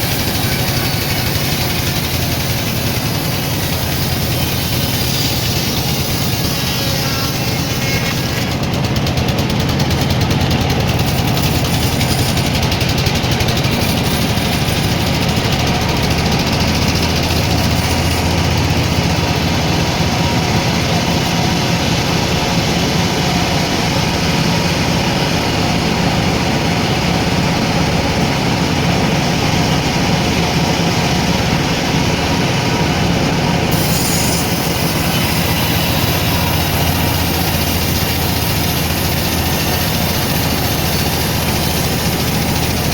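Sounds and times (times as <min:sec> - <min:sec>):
sawmill machinery drone: 0:00.0 - 0:42.9.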